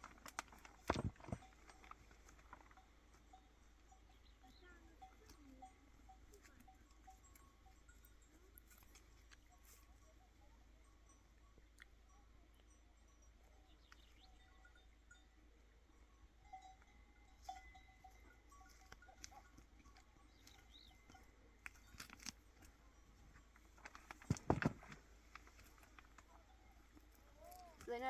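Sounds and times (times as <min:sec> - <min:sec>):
livestock bells: 0:00.0 - 0:28.0.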